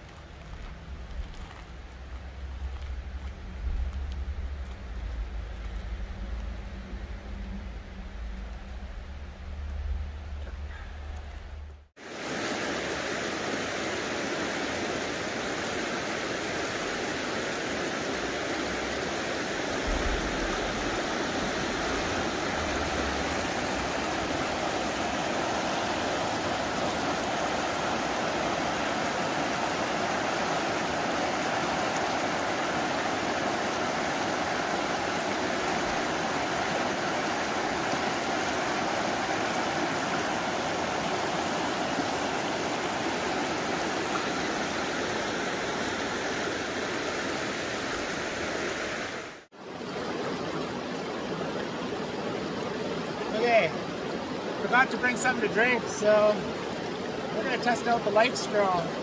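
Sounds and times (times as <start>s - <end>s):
stream rushing water: 0.0s - 59.0s.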